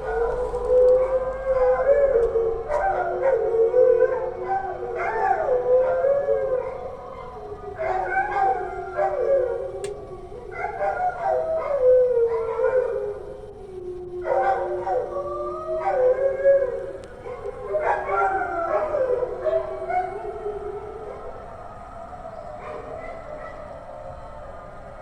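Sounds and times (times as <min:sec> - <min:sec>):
dogs howling: 0:00.0 - 0:25.0.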